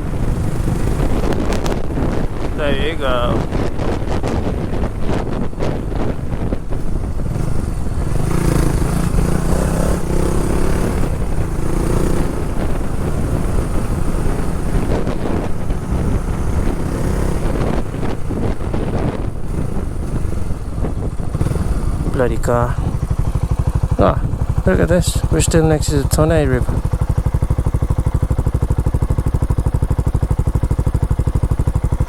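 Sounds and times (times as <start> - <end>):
motorcycle engine drone: 0.0 - 32.0
wind buffeting microphone: 0.0 - 32.0.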